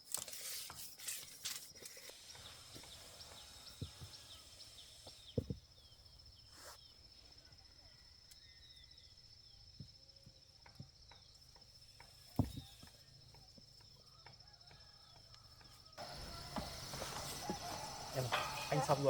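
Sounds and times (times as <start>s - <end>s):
insect trill: 0.1s - 19.0s.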